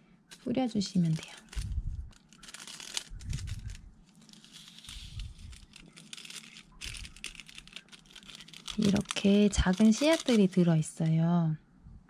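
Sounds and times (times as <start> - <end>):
seed sachet crinkling and tearing: 0.4 - 11.0.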